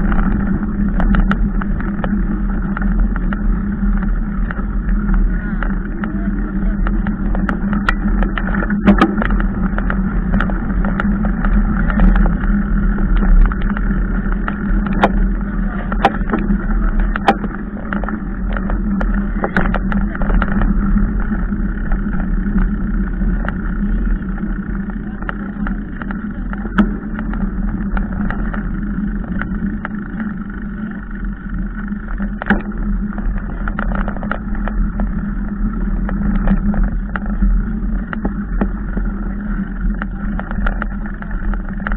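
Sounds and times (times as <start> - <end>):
bike knocking and rattling: 0.0 - 41.9
bike tyres rumbling on dirt: 0.0 - 41.9.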